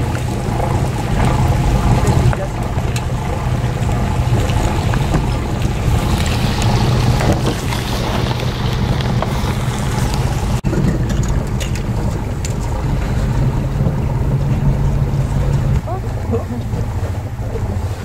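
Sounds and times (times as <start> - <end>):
boat engine humming: 0.0 - 18.0
water rushing past hull: 0.0 - 18.0
wind noise on microphone: 0.0 - 18.0.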